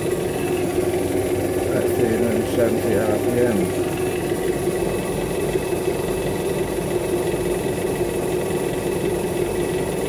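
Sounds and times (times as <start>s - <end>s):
drill press motor humming: 0.0s - 10.0s.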